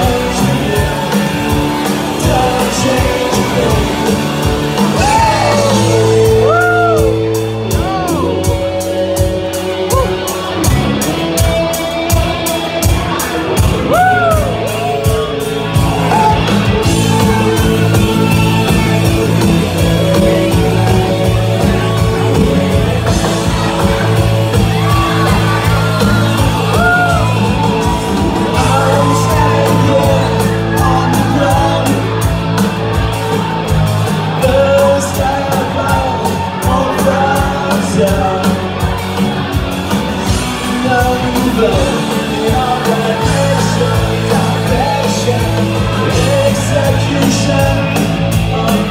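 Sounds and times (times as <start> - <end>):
person singing: 0.0 - 11.1, 13.2 - 33.4, 34.0 - 39.3, 40.2 - 48.9
bass guitar: 0.0 - 48.9
drums steady beat: 0.0 - 48.9
electric guitars: 0.0 - 48.9.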